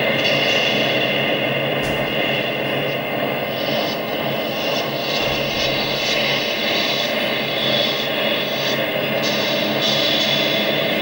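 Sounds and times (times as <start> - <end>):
electronic drone of hiss and tones: 0.0 - 11.0.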